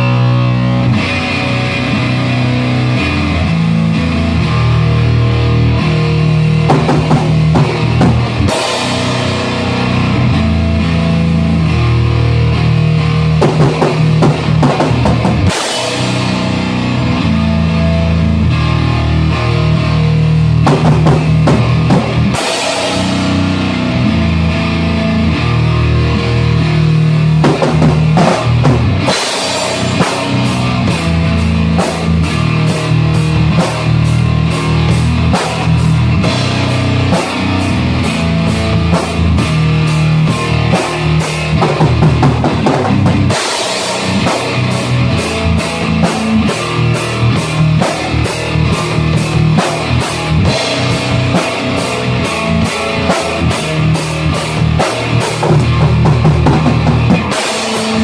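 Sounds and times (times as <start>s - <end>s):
distorted guitar chords: 0.0s - 58.0s
drum kit with cymbals: 0.0s - 58.0s.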